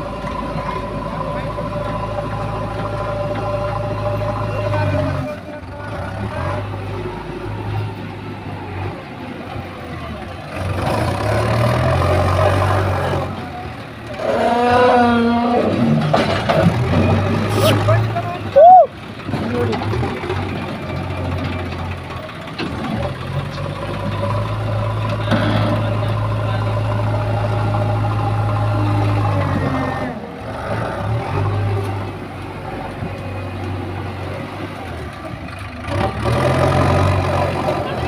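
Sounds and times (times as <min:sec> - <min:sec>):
diesel engine droning: 0:00.0 - 0:38.0.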